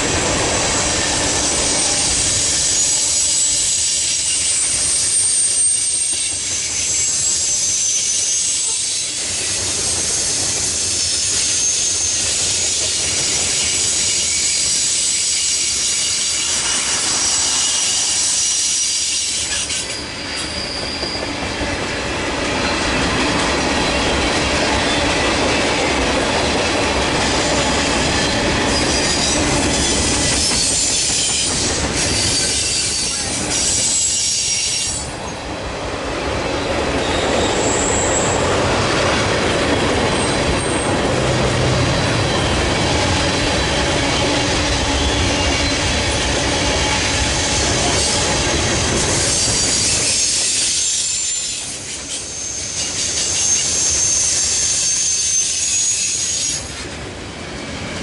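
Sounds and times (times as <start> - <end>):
train wheels rumbling on rails: 0.0 - 58.0
high wheel squeal: 0.7 - 21.6, 27.2 - 35.4, 36.6 - 39.2, 39.8 - 56.8.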